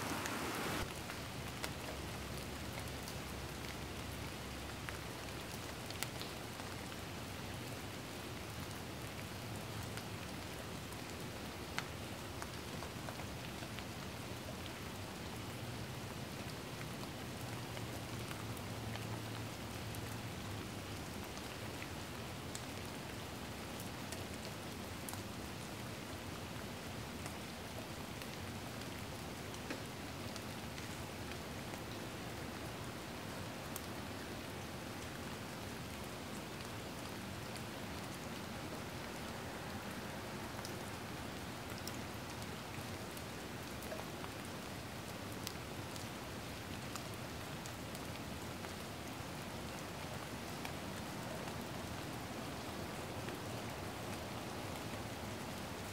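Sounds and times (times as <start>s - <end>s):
steady rain-like hiss: 0.0s - 55.9s.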